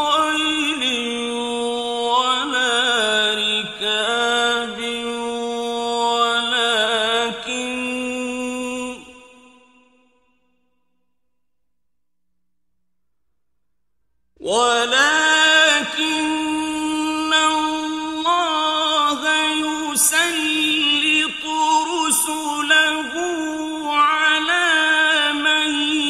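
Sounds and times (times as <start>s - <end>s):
man reciting melodically: 0.0s - 9.6s, 14.4s - 26.0s.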